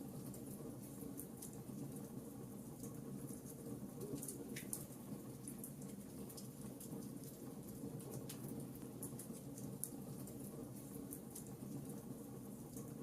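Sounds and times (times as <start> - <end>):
low steady fire rumble: 0.0 - 13.0.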